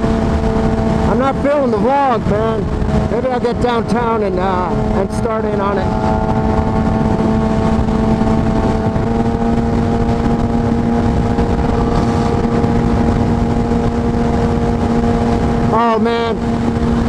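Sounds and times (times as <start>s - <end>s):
motorcycle engine cruising: 0.0s - 17.0s
wind and road rush: 0.0s - 17.0s.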